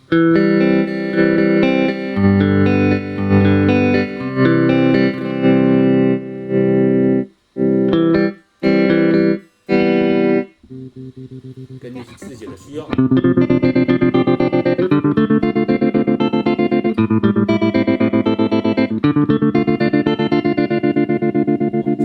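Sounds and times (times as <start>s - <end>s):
electric guitar chords with tremolo: 0.0s - 22.0s.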